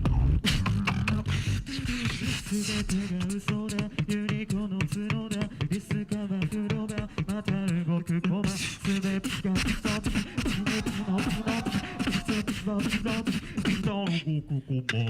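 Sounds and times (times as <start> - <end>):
hummed vocal bassline: 0.0 - 15.0
person beatboxing: 0.0 - 15.0
person singing: 0.2 - 15.0.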